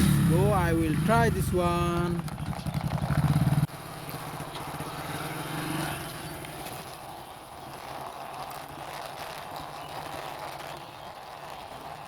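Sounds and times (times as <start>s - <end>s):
toy bike wheels rattling: 0.4s - 12.0s.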